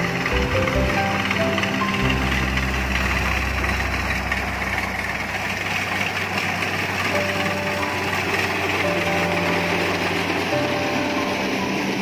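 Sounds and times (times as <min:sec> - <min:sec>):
combine harvester mechanical din: 0:00.0 - 0:12.0.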